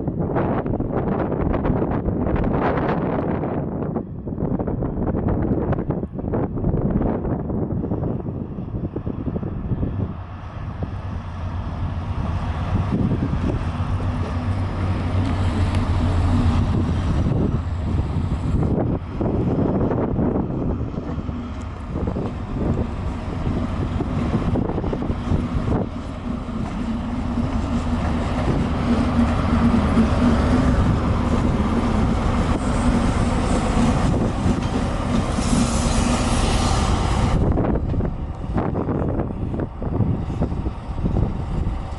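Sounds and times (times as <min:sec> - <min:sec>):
diesel train engine humming: 0:00.0 - 0:41.9
wind buffeting microphone: 0:00.0 - 0:41.9.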